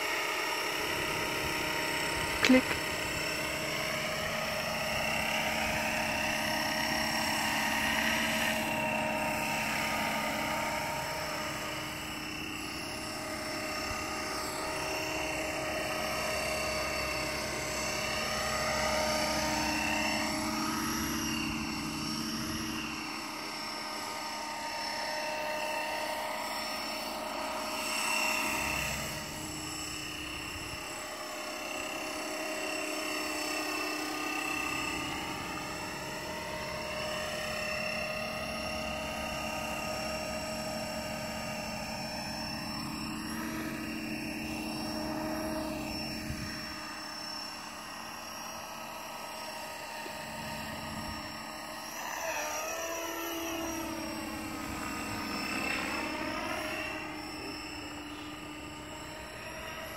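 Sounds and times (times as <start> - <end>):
model helicopter whine: 0.0 - 59.9.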